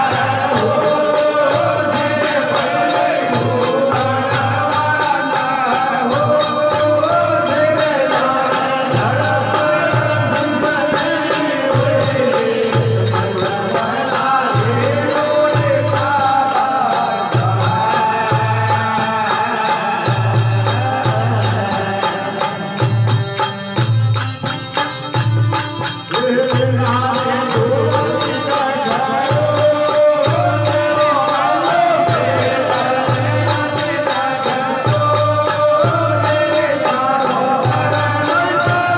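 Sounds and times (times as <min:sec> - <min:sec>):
jingling percussion: 0:00.0 - 0:38.9.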